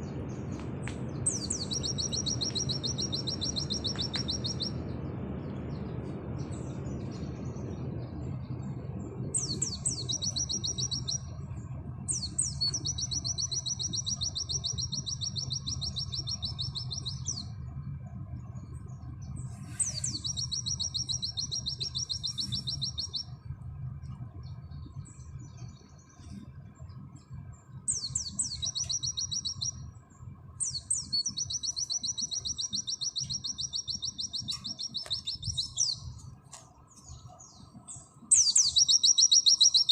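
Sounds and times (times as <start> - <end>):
bird singing fast trills: 0.0 - 39.9
steady low hum: 0.0 - 39.9.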